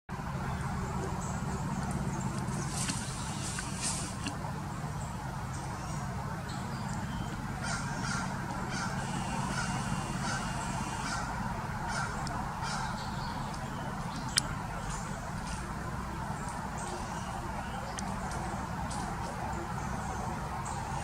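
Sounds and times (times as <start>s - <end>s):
steady low rumble: 0.1s - 21.0s
repeated bird calls: 0.4s - 21.0s.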